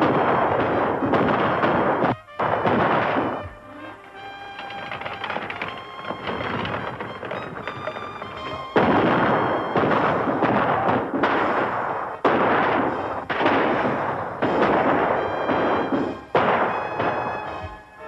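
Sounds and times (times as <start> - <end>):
gunshots with echoing tail: 0.0 - 18.0.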